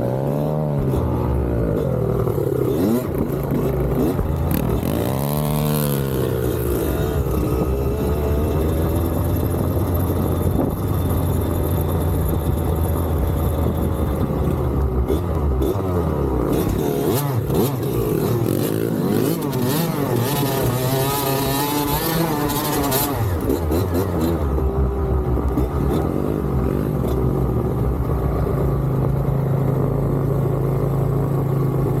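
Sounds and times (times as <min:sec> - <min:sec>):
dirt bike engines revving: 0:00.0 - 0:29.8.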